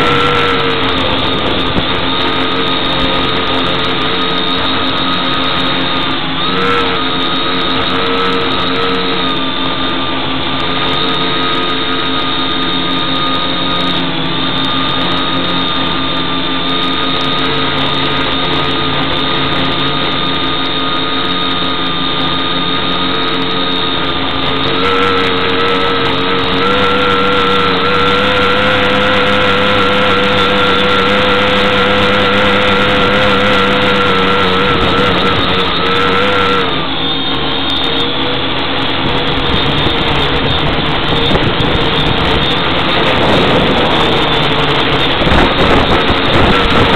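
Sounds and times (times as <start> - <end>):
quadcopter propellers whining: 0.0 - 46.9.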